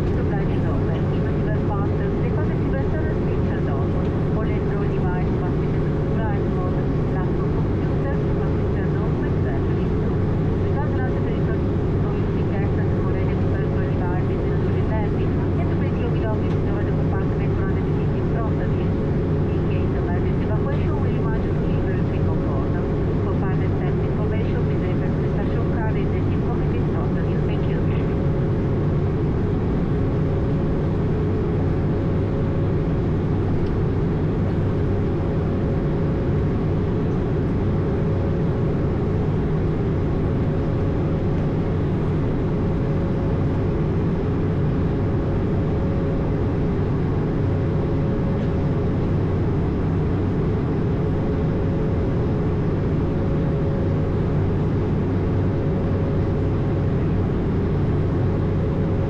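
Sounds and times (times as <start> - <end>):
airflow and engine noise: 0.0 - 59.0
low hum: 0.0 - 59.0.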